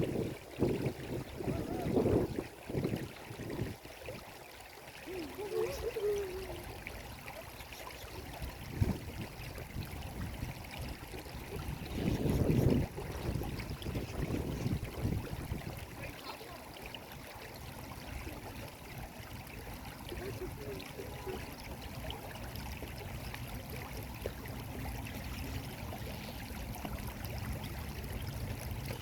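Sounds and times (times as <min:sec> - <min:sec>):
stream water trickling: 0:00.0 - 0:29.0.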